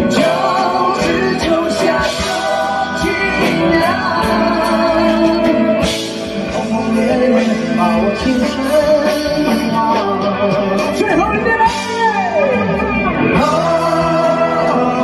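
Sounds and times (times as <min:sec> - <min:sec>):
men singing: 0:00.0 - 0:12.6, 0:13.3 - 0:15.0
drums and guitars: 0:00.0 - 0:15.0.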